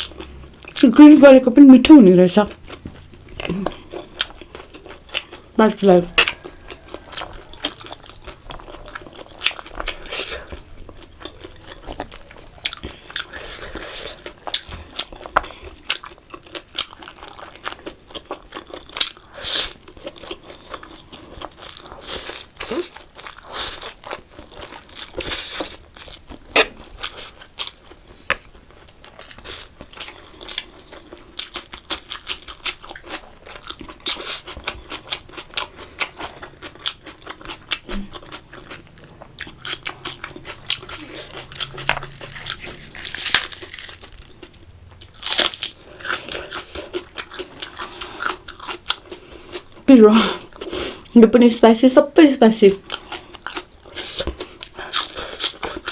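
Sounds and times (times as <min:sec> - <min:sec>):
chewing and crunching food: 0:00.0 - 0:51.2, 0:52.7 - 0:55.9.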